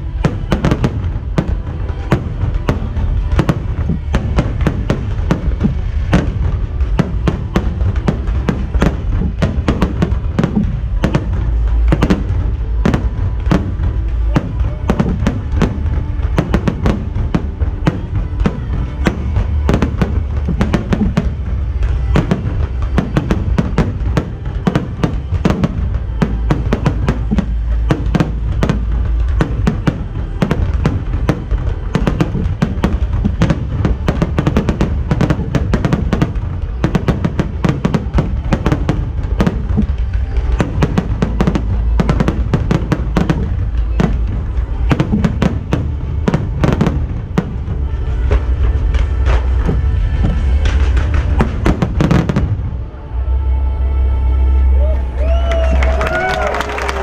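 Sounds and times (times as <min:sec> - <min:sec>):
fireworks bangs and crackling: 0:00.0 - 0:53.1, 0:55.2 - 0:57.0
low rumble: 0:00.0 - 0:57.0
music playing: 0:00.0 - 0:57.0.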